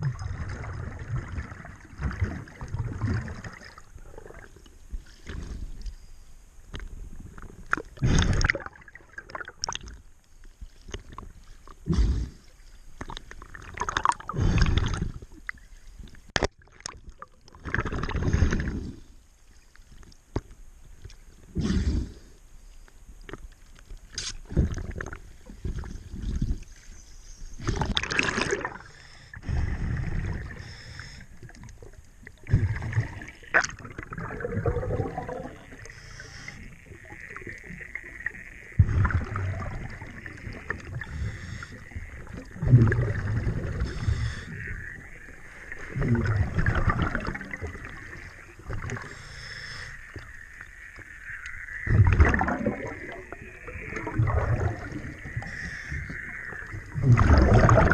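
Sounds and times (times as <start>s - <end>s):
bubbling exhaled air underwater: 0.0s - 5.8s, 7.2s - 10.0s, 10.9s - 15.6s, 16.4s - 19.1s, 24.4s - 26.7s, 27.6s - 57.9s.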